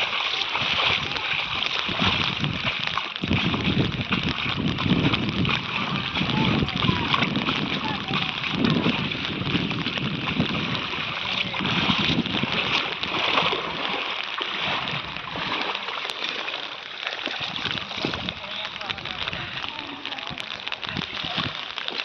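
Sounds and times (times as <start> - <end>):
floodwater splashing and sloshing: 0.0 - 22.0.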